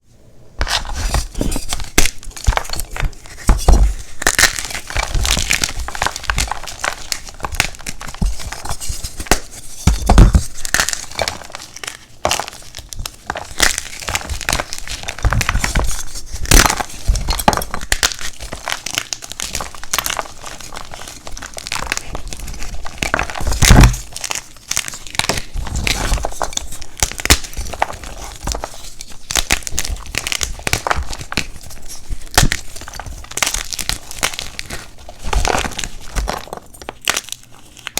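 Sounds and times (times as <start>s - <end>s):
chalk blocks crunching: 0.6s - 37.9s.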